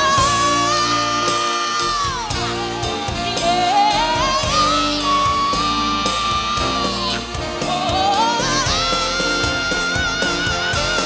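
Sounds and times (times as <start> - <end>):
live band music with singing: 0.0 - 11.0.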